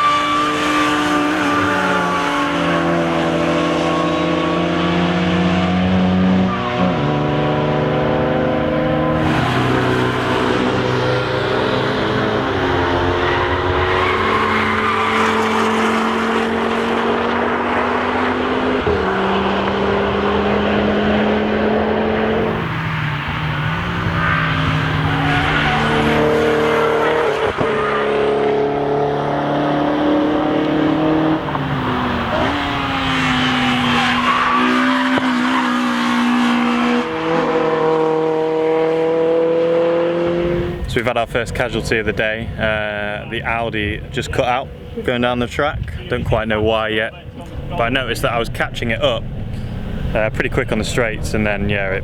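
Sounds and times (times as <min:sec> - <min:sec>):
car engine at full throttle: 0:00.0 - 0:52.0.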